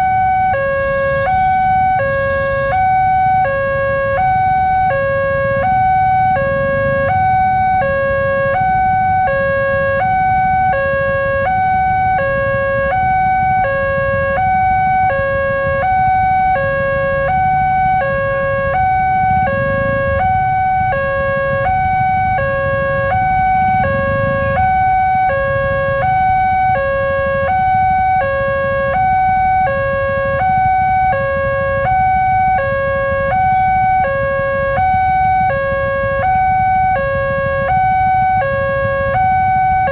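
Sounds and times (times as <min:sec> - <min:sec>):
level crossing two-tone siren: 0:00.0 - 0:39.9
road traffic rumble: 0:00.0 - 0:39.9
vehicles passing: 0:00.0 - 0:39.9.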